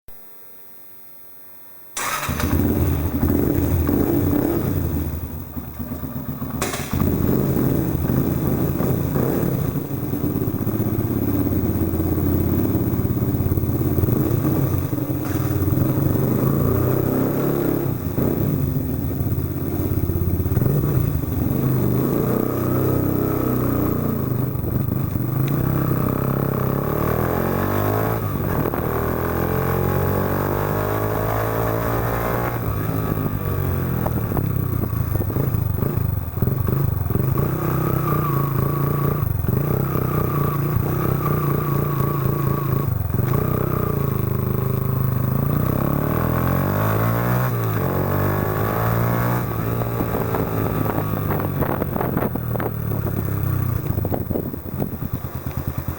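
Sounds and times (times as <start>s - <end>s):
motorcycle engine running: 2.0s - 55.9s.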